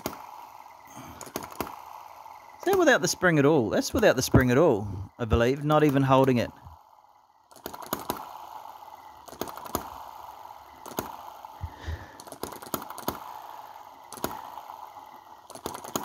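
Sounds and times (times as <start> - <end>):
model engine whirring and clicking: 0.0 - 16.0.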